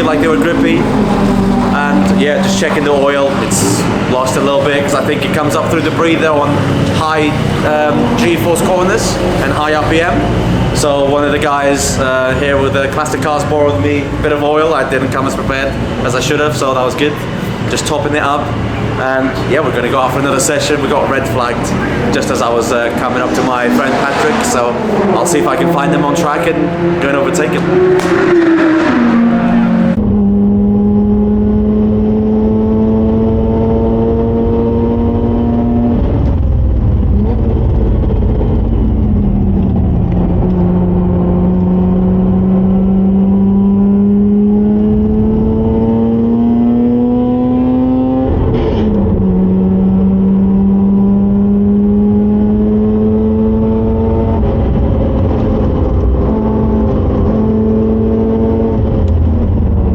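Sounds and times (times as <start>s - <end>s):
rotary engine accelerating: 0.0s - 59.9s.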